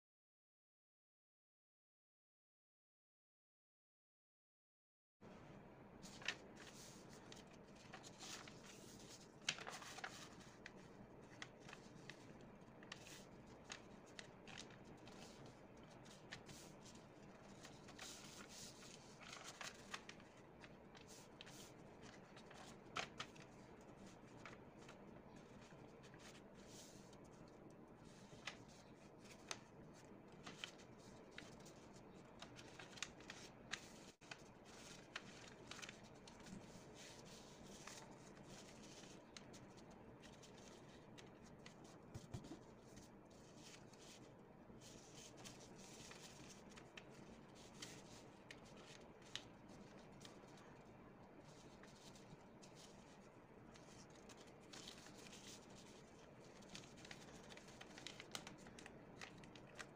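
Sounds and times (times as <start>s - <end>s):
paper rustling and crinkling: 6.0s - 59.9s.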